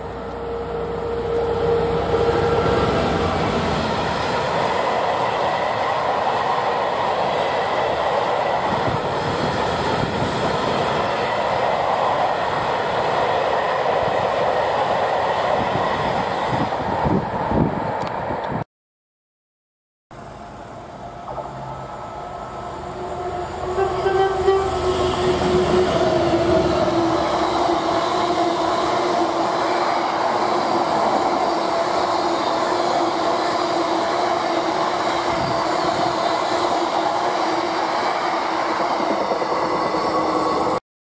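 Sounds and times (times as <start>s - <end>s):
diesel locomotive engine drone: 0.0s - 15.0s, 20.1s - 40.8s.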